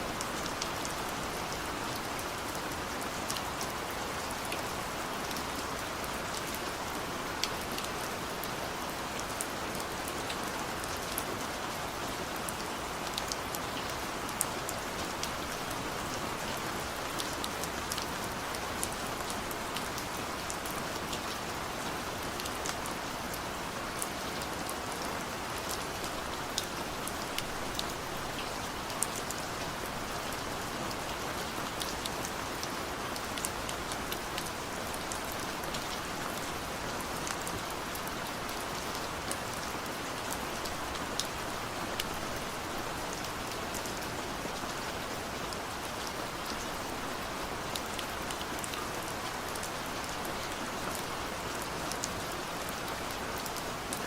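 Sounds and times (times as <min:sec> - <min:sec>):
heavy rain in forest: 0:00.0 - 0:54.0.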